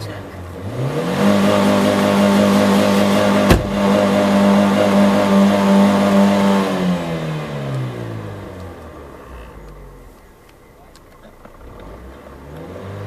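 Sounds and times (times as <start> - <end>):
car engine revving high: 0.0 - 10.2, 11.4 - 13.0.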